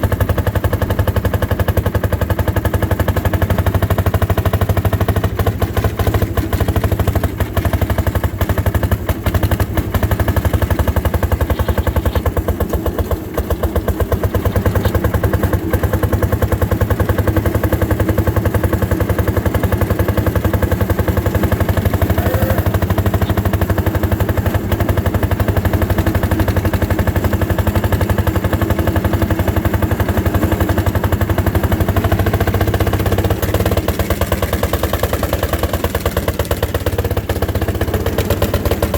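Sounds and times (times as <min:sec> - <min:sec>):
two-stroke engine running under load: 0:00.0 - 0:38.9.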